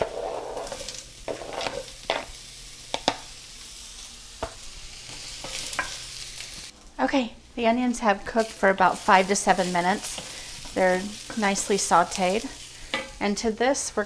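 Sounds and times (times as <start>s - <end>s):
onion sizzling in oil: 0.0s - 14.0s.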